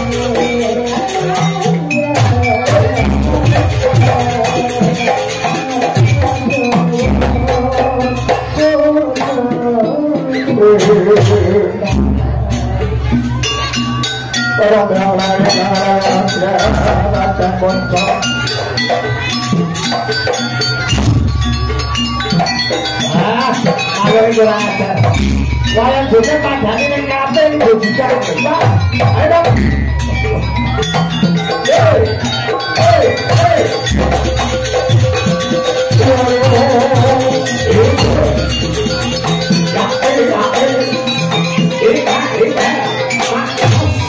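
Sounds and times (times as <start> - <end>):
gamelan gongs and drums: 0.0 - 44.0
held melody line: 0.0 - 44.0.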